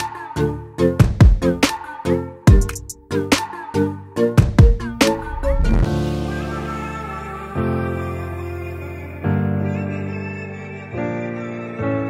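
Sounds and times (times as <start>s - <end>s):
slow gentle background music: 0.0s - 12.0s.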